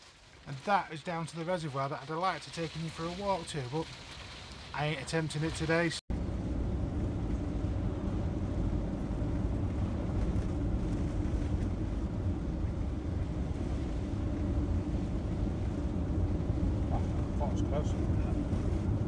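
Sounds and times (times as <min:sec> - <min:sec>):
engine rumble: 0:00.0 - 0:19.0
road noise: 0:02.2 - 0:19.0.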